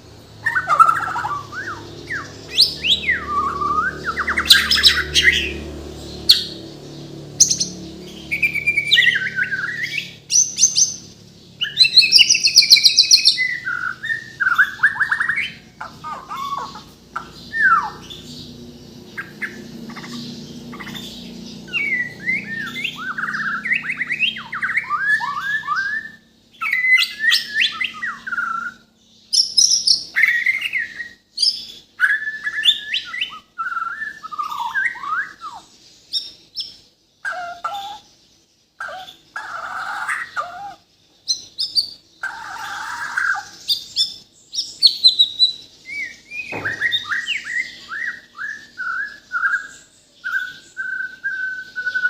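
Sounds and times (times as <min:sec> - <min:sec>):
bird singing varied phrases: 0:00.0 - 0:52.0.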